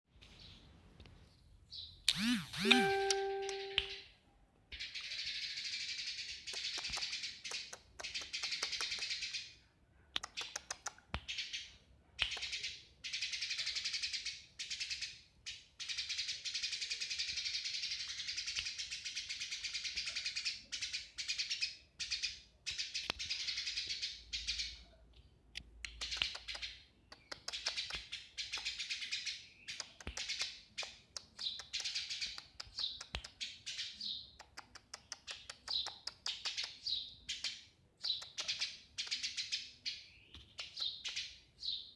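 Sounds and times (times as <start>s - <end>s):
sparrows chirping: 0.2s - 4.0s, 4.8s - 9.6s, 11.3s - 24.9s, 26.0s - 41.9s.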